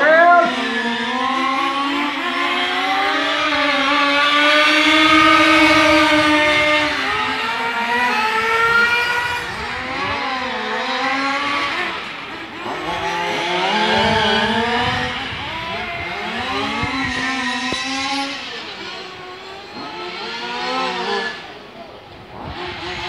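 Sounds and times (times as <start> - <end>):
model car motors racing: 0.0 - 23.0.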